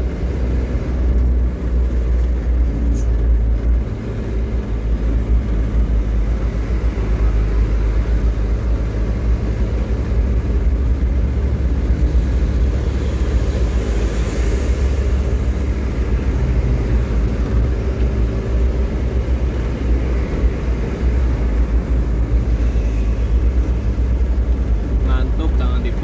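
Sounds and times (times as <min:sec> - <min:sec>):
truck engine and road rumble: 0:00.0 - 0:26.0.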